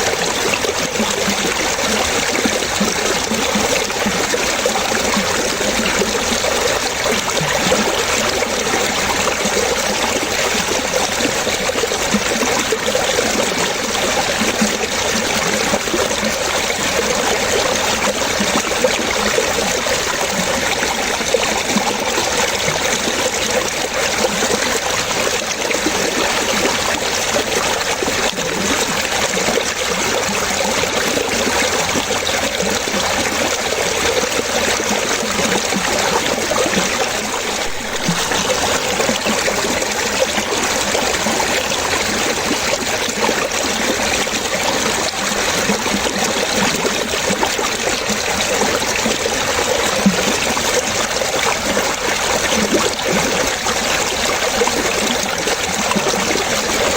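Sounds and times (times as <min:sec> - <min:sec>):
water running and splashing: 0:00.0 - 0:56.9.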